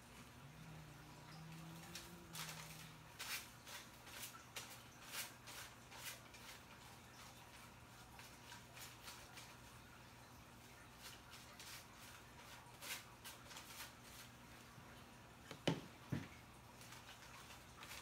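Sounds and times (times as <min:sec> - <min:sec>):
brush and foil rustling on hair: 0:00.0 - 0:18.0
faint low hum: 0:00.0 - 0:18.0.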